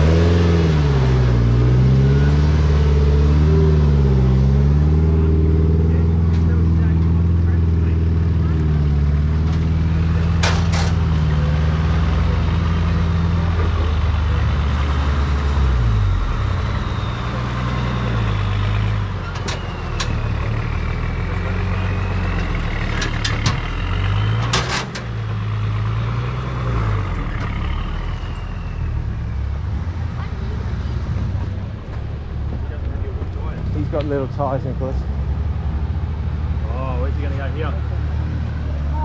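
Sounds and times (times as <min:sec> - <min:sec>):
engine pulling at low speed: 0:00.0 - 0:39.0.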